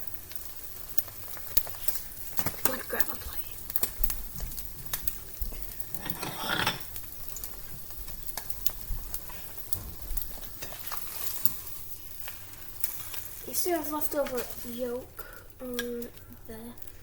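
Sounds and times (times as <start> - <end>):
egg sizzling in a pan: 0.0 - 17.0.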